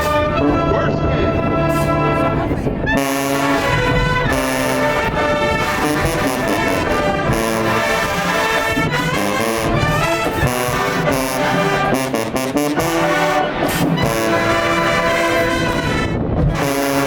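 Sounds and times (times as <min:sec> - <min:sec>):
brass band playing: 0:00.0 - 0:17.0
percussion hits: 0:03.0 - 0:17.0.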